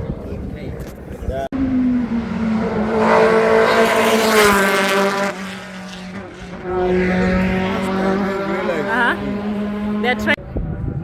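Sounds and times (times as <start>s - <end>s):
race car engine passing: 1.5s - 10.4s.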